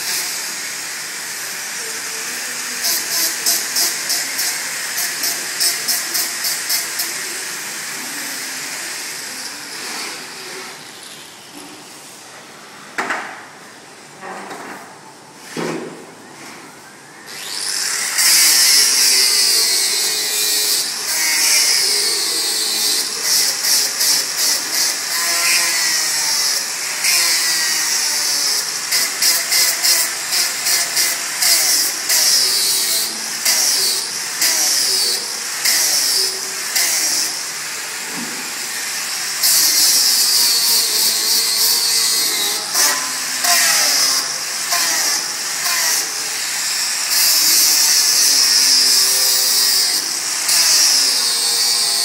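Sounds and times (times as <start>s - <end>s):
angle grinder grinding steel: 0.0s - 11.6s, 17.3s - 52.0s.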